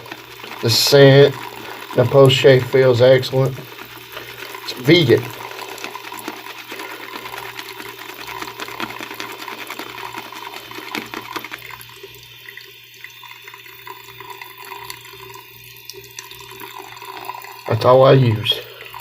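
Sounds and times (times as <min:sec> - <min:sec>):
water running from a tap: 0:00.0 - 0:19.0.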